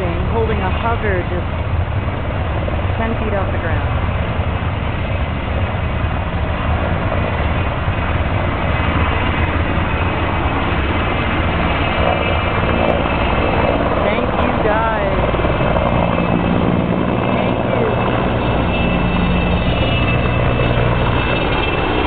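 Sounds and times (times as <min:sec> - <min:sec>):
helicopter rotor beat: 0:00.0 - 0:22.0
turbine whine: 0:00.0 - 0:22.0.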